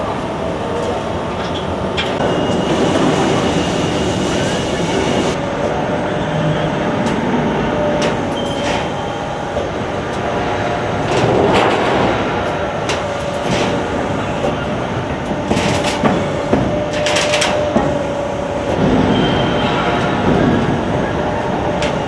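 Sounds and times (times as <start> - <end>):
machinery whining: 0.0 - 22.0.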